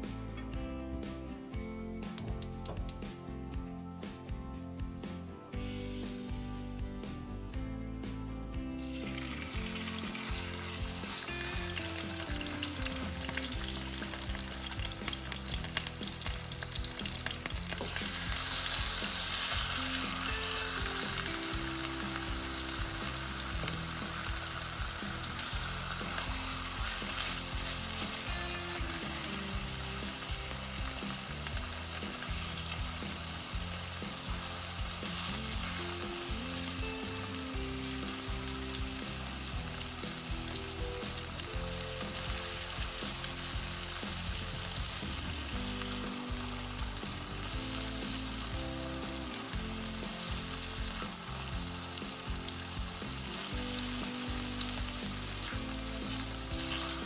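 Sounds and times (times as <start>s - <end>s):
chicken sizzling in oil: 8.0s - 57.0s.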